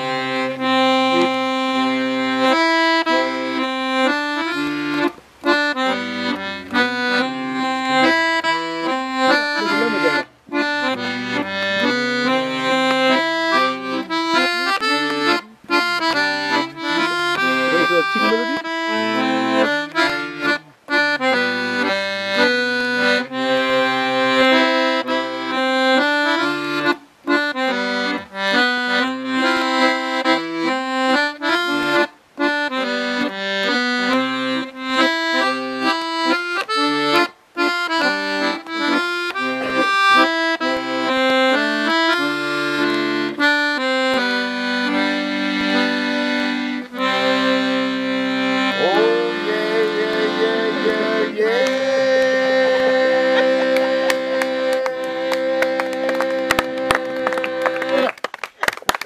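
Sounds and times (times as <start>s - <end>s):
accordion playing a tune: 0.0s - 59.0s.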